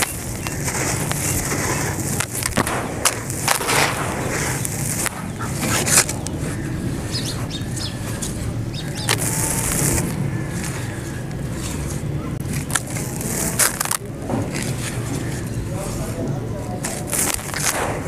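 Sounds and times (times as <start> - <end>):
crunchy crackles of crumbling: 0.0 - 18.0.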